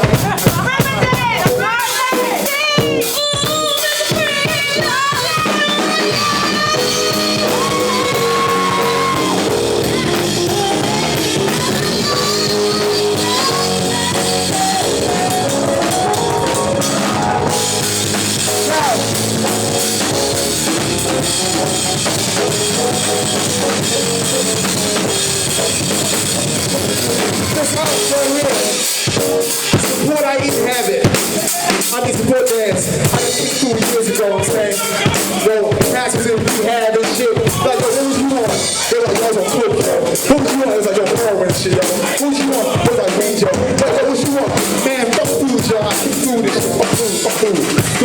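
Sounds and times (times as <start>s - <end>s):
drum kit beat: 0.0s - 48.0s
live rock band playing: 0.0s - 48.0s.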